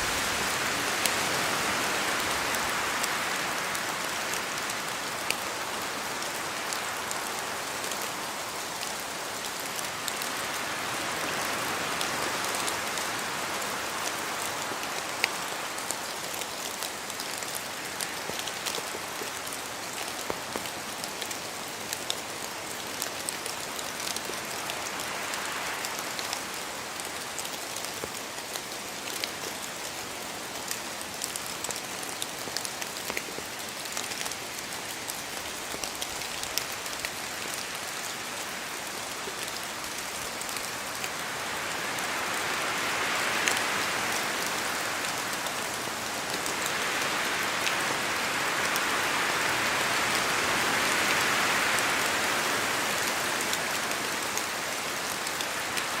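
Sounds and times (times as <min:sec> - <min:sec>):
rain falling in forest: 0:00.0 - 0:56.0
wind through trees: 0:00.0 - 0:56.0.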